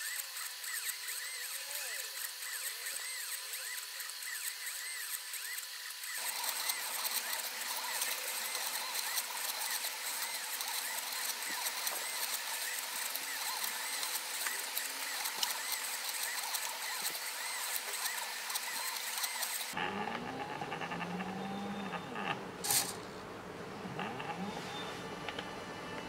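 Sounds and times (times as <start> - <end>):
stepper motors whining: 0.0 - 26.0.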